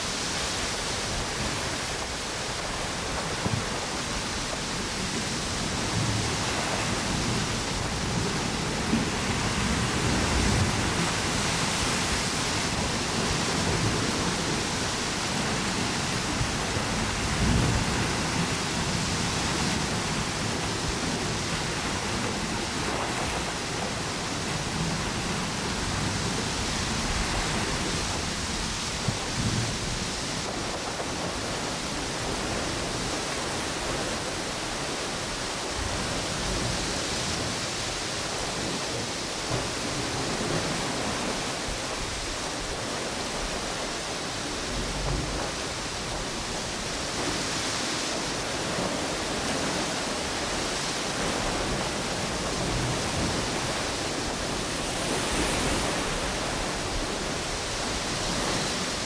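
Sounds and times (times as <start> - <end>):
gusty wind through palm trees: 0.0 - 59.0
ocean waves washing on beach: 0.0 - 59.0.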